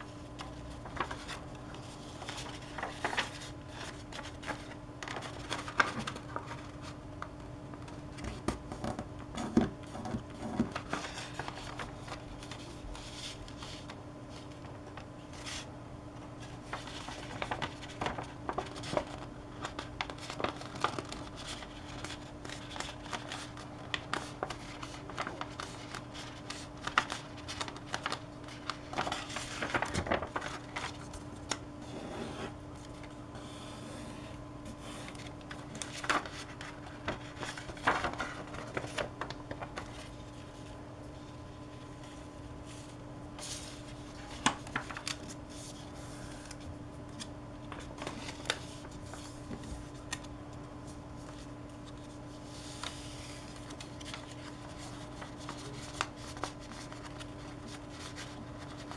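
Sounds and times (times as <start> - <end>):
paper rustling and crinkling: 0.0 - 15.7, 16.3 - 31.6, 34.7 - 58.9
steady low hum: 0.0 - 58.9.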